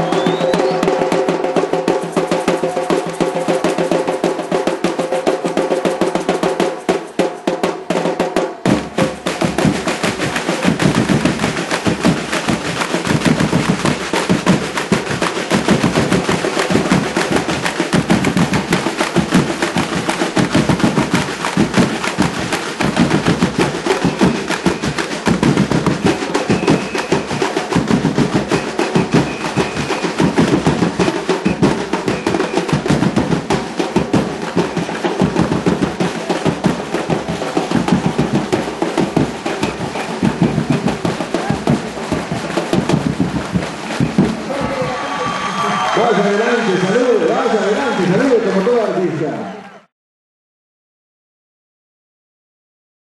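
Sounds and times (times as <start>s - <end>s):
samba percussion band playing: 0.0s - 46.5s
fast snare roll: 0.0s - 47.5s.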